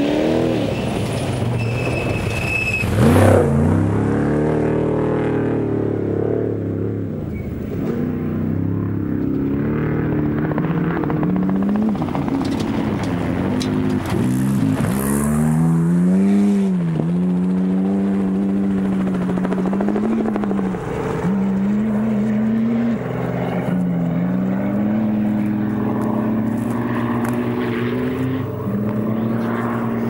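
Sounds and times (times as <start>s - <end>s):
truck engines revving: 0.0s - 30.0s.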